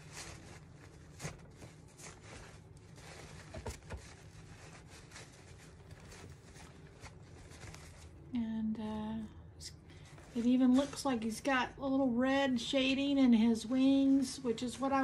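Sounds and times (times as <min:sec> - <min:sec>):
paper towel rustling and crinkling: 0:00.0 - 0:09.2, 0:09.9 - 0:15.0.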